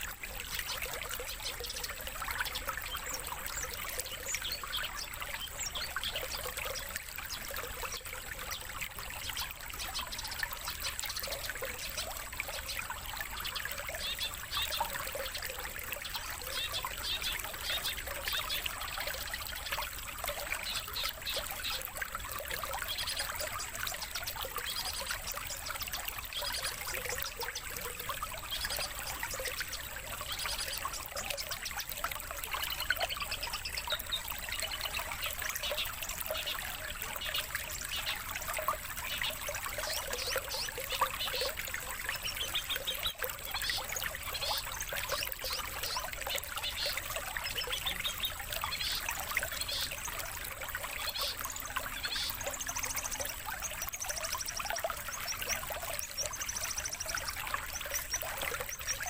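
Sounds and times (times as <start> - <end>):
songbird chirps and trills: 0.0 - 59.0
trickle of running water: 0.0 - 59.0.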